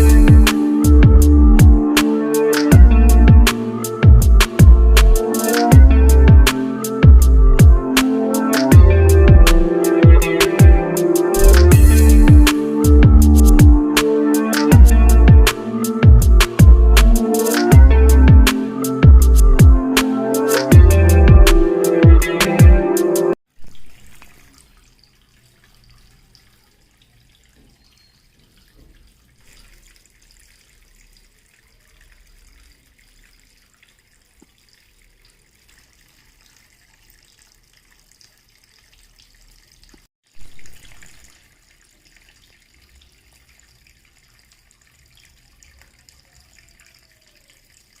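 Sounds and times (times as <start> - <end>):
water trickling in small fountain: 0.0 - 21.6, 23.4 - 48.0.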